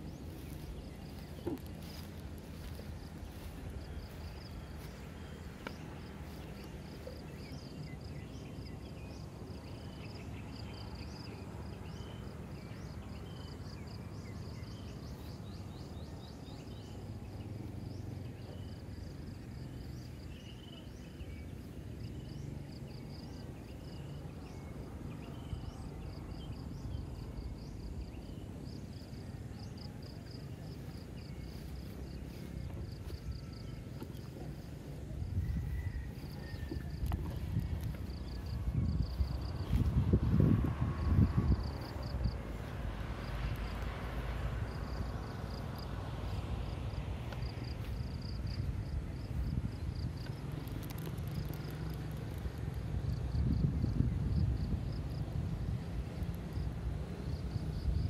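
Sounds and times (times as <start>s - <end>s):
insects chirping: 0.0s - 58.0s
low steady rumble: 0.0s - 58.0s.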